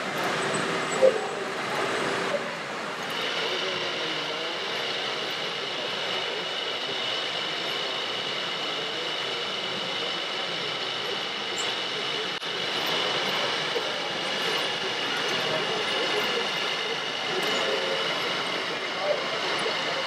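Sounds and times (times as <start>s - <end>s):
mechanical running noise with whine: 0.0s - 20.0s.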